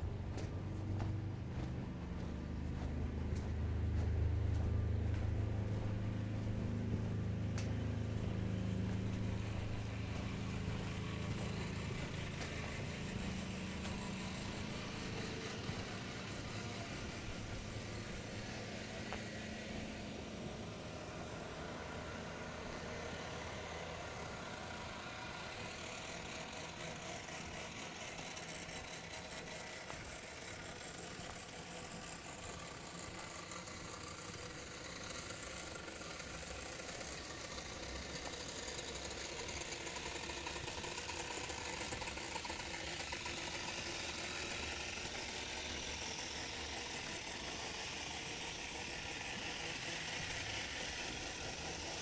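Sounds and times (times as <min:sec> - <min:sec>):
vehicle engine humming: 0:00.0 - 0:52.0.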